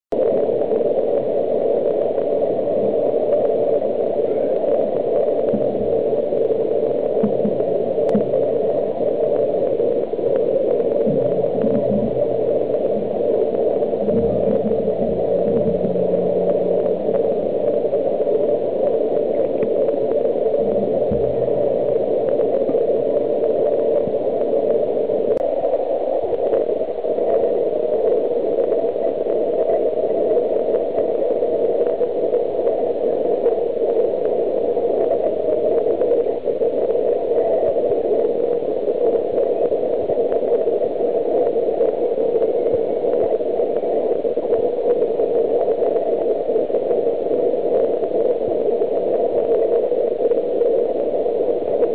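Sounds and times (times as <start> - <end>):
faint low hum: 0.2 - 51.9.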